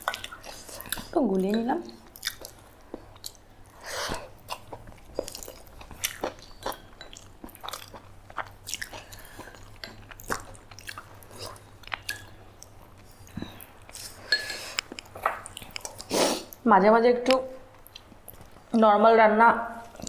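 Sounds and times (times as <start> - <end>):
person chewing food: 0.0 - 1.2, 2.0 - 16.6, 17.7 - 18.7.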